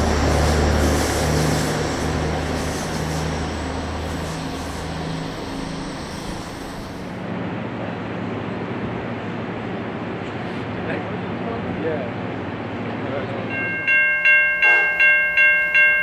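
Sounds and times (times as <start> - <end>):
train wheels rumbling on rails: 0.0 - 14.0
diesel locomotive drone: 0.0 - 16.0.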